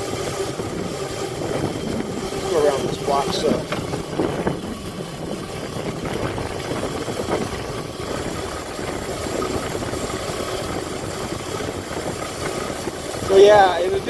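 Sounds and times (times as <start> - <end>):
electric motor and chain drive: 0.0 - 14.0
tyres on asphalt: 0.0 - 14.0
wind on microphone: 0.0 - 14.0.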